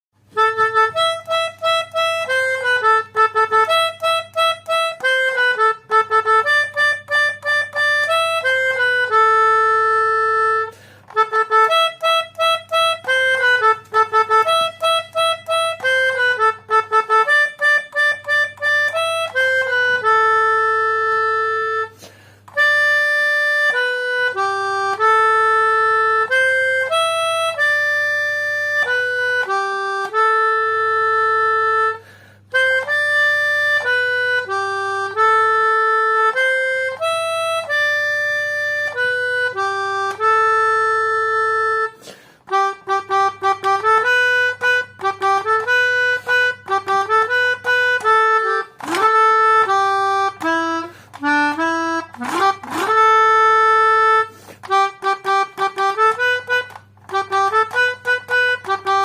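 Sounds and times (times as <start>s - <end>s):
melodica playing a melody: 0.2s - 59.0s.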